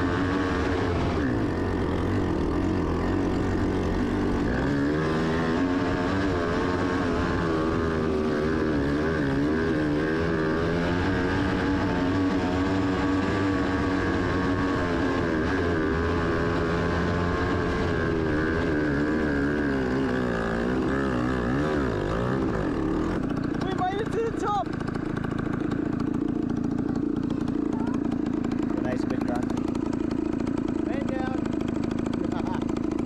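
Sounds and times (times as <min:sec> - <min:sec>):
off-road vehicle engine pulling hard: 0:00.0 - 0:33.0.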